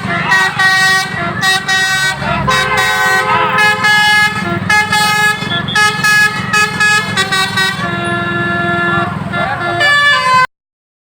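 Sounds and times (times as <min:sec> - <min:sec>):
bus engine running: 0:00.0 - 0:10.4
multi-tone air horn playing tune: 0:00.0 - 0:10.5.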